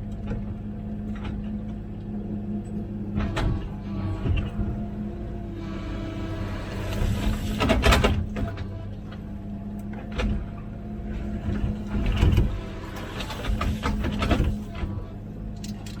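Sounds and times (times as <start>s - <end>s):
mini excavator engine humming: 0.0s - 16.0s.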